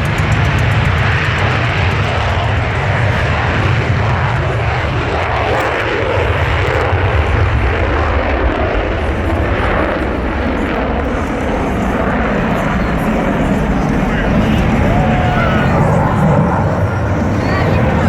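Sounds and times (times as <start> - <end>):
loud jet engine noise: 0.0 - 18.0.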